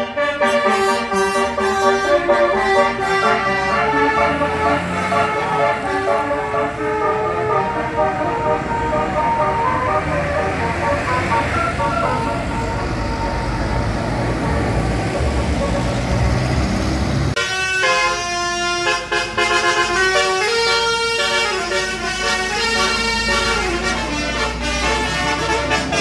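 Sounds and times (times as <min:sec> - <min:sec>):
musical bus horn tune: 0:00.0 - 0:14.4, 0:17.3 - 0:26.0
bus engine and road noise: 0:00.0 - 0:26.0.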